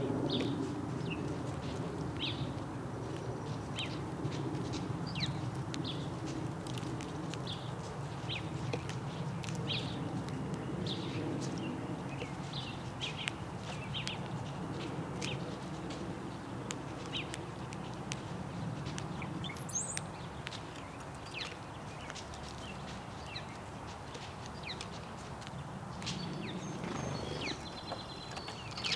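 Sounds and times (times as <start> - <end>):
sparrows chirping: 0.0 - 28.9.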